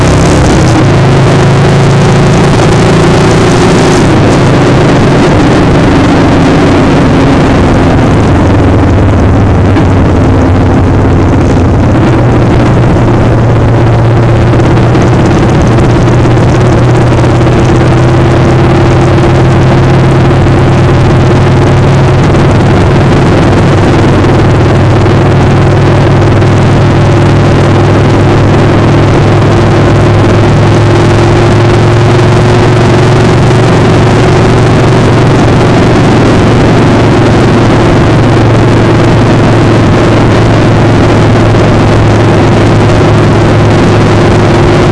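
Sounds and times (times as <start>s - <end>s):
motorcycle engine running: 0.0s - 44.9s
wind rushing on microphone: 0.0s - 44.9s.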